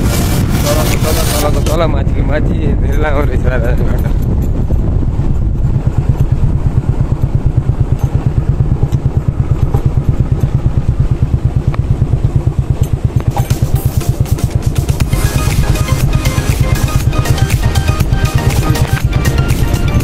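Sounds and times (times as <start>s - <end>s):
motorcycle engine at low revs: 0.0s - 20.0s.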